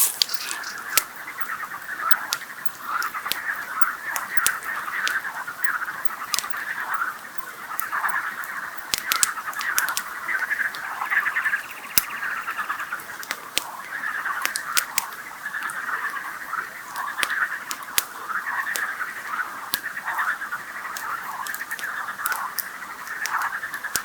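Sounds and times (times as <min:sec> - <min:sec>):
campfire crackling: 0:00.0 - 0:24.0
frogs croaking: 0:00.0 - 0:24.0.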